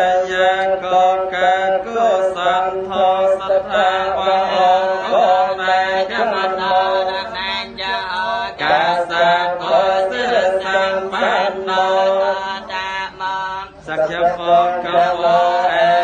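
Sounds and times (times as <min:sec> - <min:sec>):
melodic chanting: 0:00.0 - 0:16.0.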